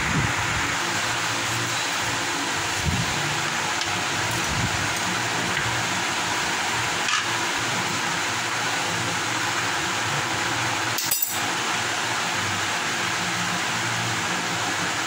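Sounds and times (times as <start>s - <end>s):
fan-like hiss: 0.0s - 15.0s.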